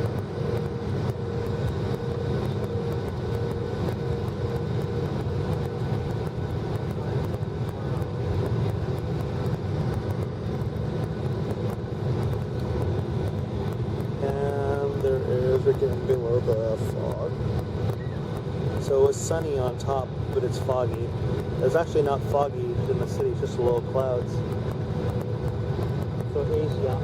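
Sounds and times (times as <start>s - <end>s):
airplane cabin roar: 0.0s - 27.0s.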